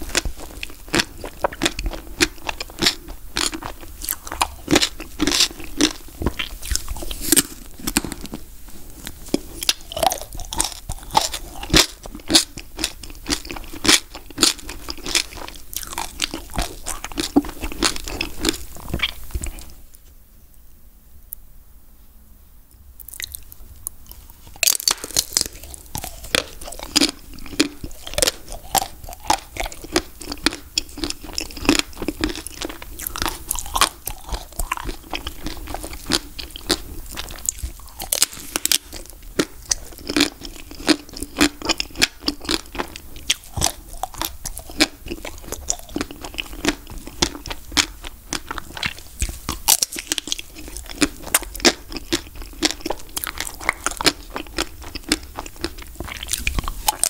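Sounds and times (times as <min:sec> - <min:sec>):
ice cream shell crunching: 0:00.0 - 0:19.9, 0:23.0 - 0:57.0.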